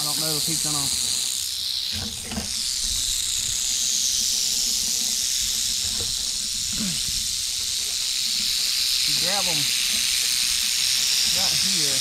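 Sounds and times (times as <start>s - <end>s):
rattlesnake tail rattle buzzing: 0.0s - 12.0s.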